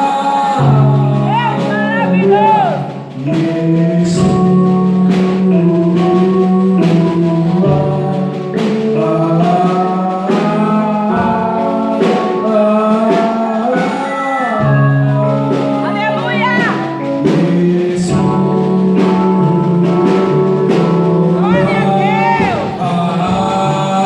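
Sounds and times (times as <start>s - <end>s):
gospel singing: 0.0s - 24.0s
steady drum beat: 0.0s - 24.0s
sustained keyboard chords: 0.0s - 24.0s.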